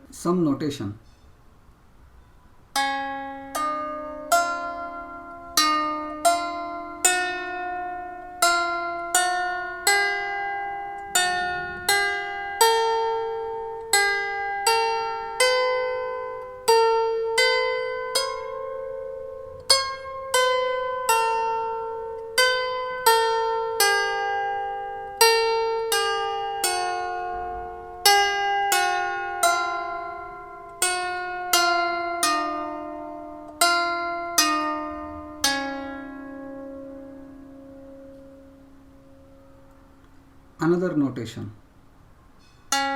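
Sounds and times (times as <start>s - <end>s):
lyre harp plucked melody: 2.7s - 40.9s, 42.3s - 42.9s.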